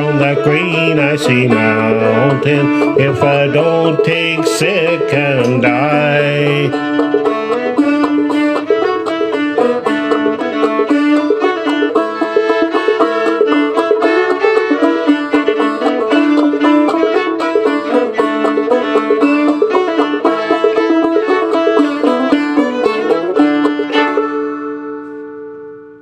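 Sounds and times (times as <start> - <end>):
banjo playing: 0.0 - 26.0
fiddle playing: 0.0 - 26.0.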